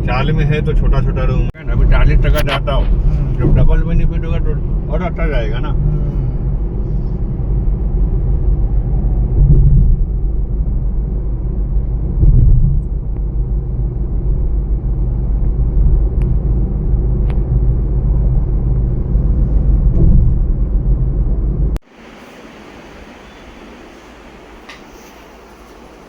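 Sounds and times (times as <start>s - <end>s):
motor vehicle rumble: 0.0s - 26.0s.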